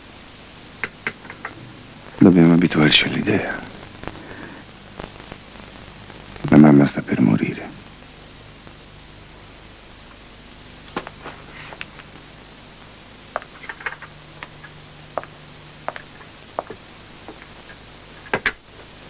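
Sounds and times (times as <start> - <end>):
faint low hum: 0.0 - 19.0
tape hiss: 0.0 - 19.0.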